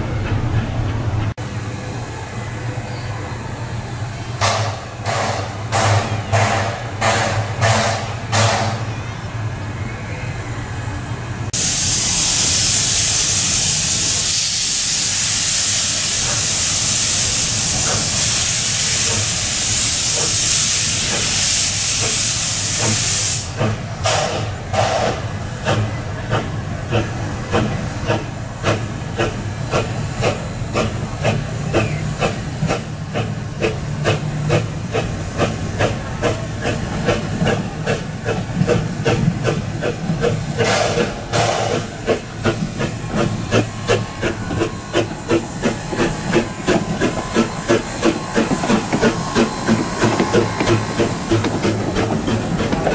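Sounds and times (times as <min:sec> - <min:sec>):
steam locomotive chuffing: 0:00.0 - 0:10.2, 0:11.1 - 0:52.9
steam venting hiss: 0:03.1 - 0:08.9, 0:11.5 - 0:52.9.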